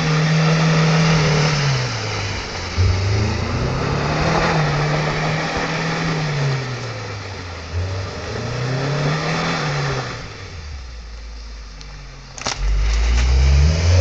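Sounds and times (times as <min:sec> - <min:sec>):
truck engine revving: 0:00.0 - 0:10.9, 0:12.4 - 0:14.0.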